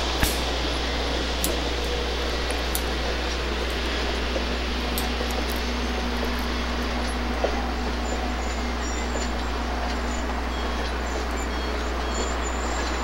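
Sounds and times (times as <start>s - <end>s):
low hum: 0.0s - 13.0s
train cars rolling over crossing: 0.0s - 13.0s.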